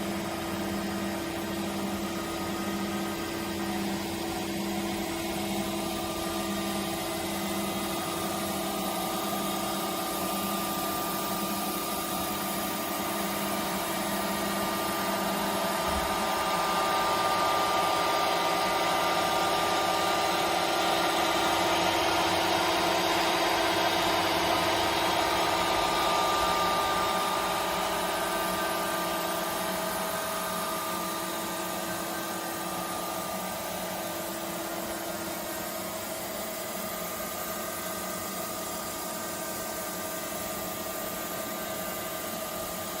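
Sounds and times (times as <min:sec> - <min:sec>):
lathe machine humming: 0:00.0 - 0:43.0.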